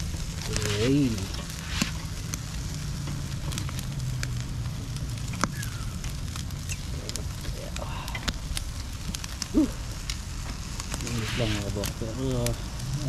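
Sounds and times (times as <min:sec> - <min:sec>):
fire crackling and popping: 0:00.0 - 0:13.0
food sizzling on a grill: 0:00.0 - 0:13.0.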